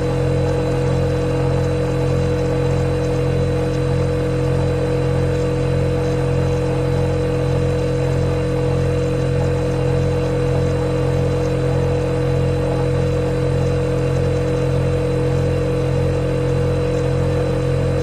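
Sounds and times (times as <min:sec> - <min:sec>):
refrigerator compressor running: 0:00.0 - 0:18.0.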